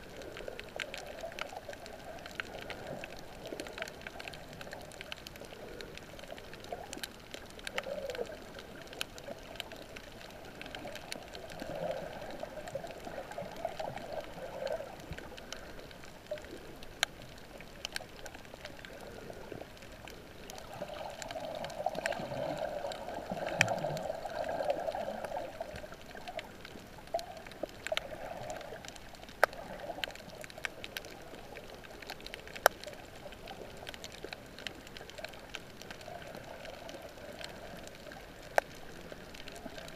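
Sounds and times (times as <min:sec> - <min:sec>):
sharp crackling clicks: 0:00.0 - 0:39.9
underwater water wash: 0:00.0 - 0:39.9.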